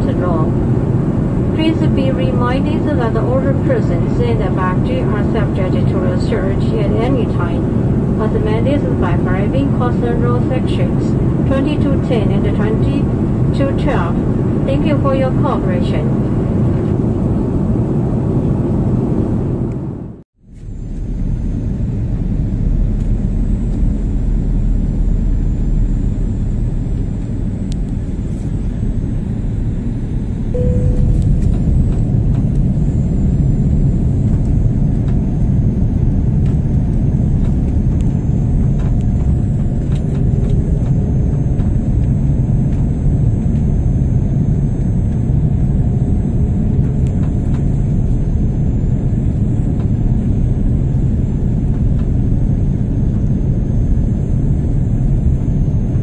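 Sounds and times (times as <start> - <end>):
jet engines and airflow rumble: 0.0 - 56.0.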